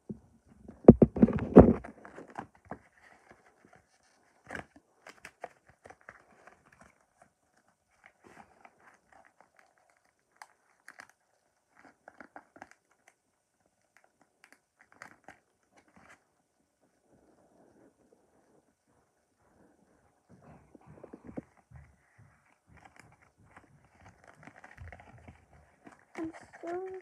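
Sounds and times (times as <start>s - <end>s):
plastic dolls clicking and rustling: 0.6s - 16.3s, 20.6s - 27.0s.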